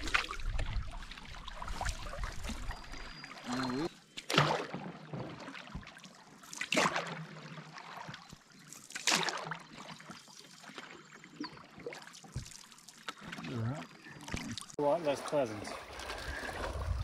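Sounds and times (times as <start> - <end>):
paddle splashing through water: 0.0 - 17.0
water trickling along hull: 0.0 - 17.0.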